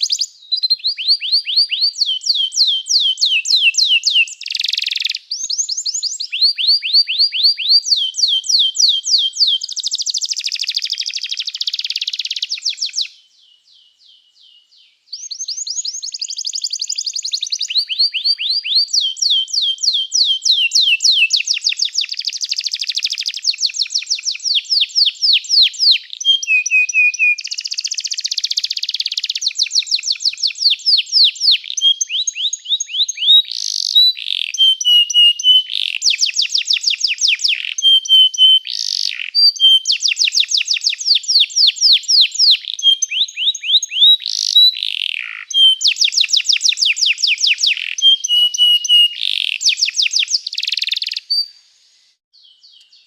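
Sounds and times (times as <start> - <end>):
canary singing trills: 0.0 - 51.6.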